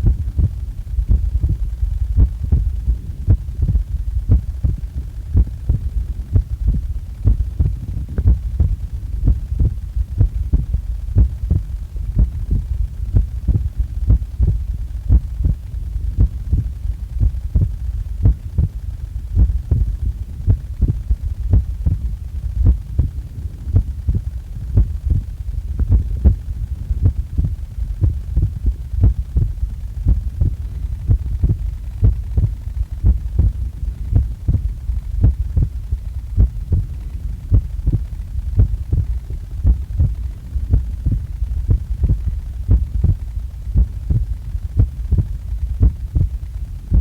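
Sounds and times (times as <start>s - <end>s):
heartbeat thumps: 0.0s - 47.0s.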